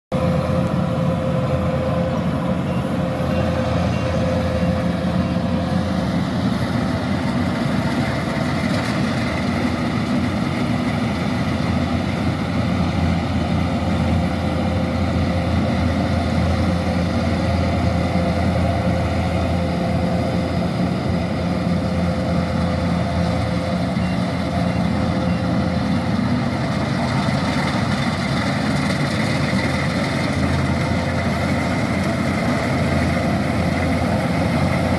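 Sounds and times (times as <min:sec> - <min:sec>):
combine harvester engine humming: 0:00.1 - 0:34.9.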